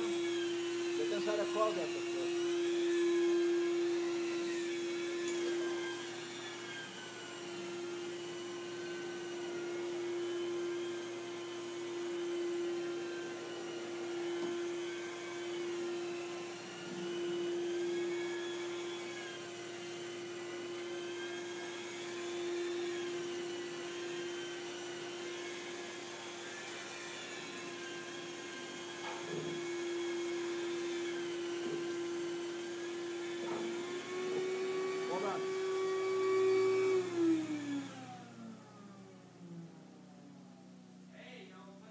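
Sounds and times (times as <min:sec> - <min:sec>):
carpet extraction machine running: 0:00.0 - 0:39.5.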